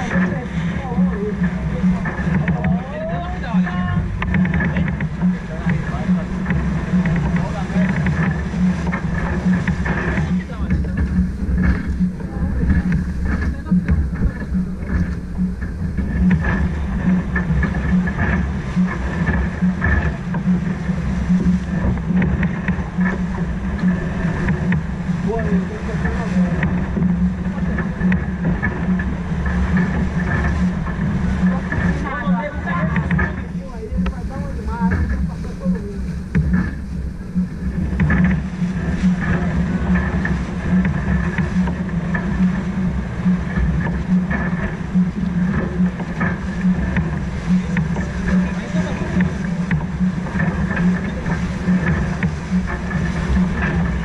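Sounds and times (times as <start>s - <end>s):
low pulsing: 0.0s - 54.0s
water rushing past hulls: 0.0s - 54.0s
wind buffeting microphone: 0.0s - 54.0s.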